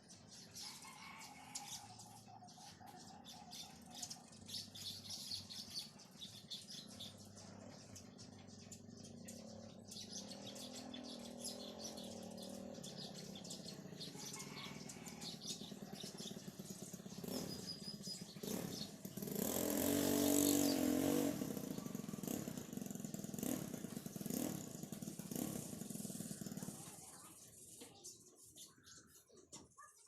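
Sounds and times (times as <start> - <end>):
vehicle engine: 0.0 - 28.2.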